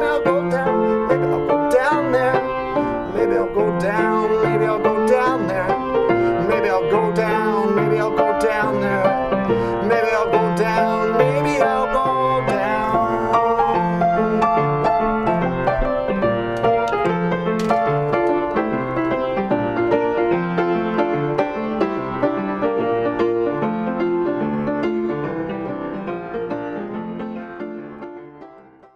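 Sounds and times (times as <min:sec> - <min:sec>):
piano playing repeated chords: 0:00.0 - 0:28.9.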